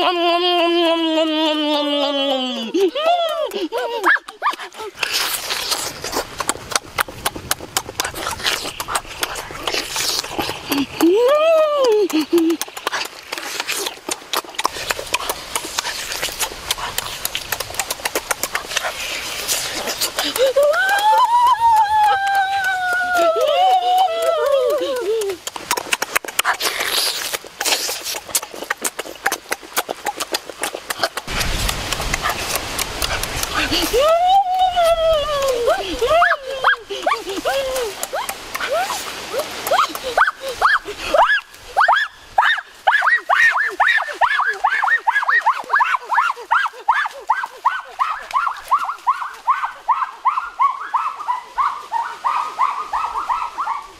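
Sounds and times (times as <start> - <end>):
lip smacking and chewing: 0.0 - 51.7.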